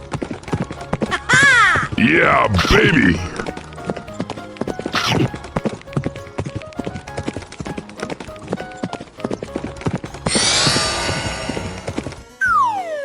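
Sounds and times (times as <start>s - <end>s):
bright sweep: 0.0s - 13.0s
cartoon hooves clip-clopping: 0.0s - 13.0s
light music with plinking notes: 0.0s - 13.0s.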